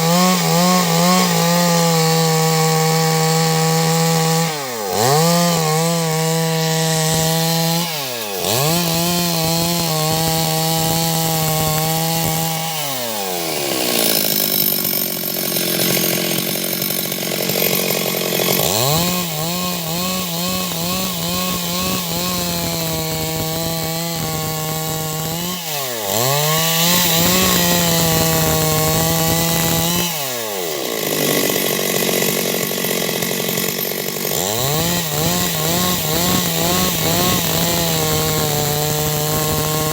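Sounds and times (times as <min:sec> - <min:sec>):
chain cutting wood: 0:00.0 - 0:39.9
chainsaw engine revving: 0:00.0 - 0:39.9.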